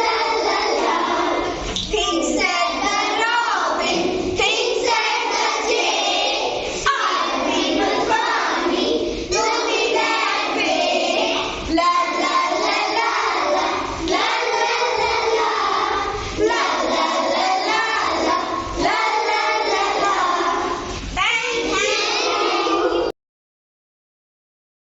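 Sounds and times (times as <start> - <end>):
children reciting in chorus: 0.0 - 23.1.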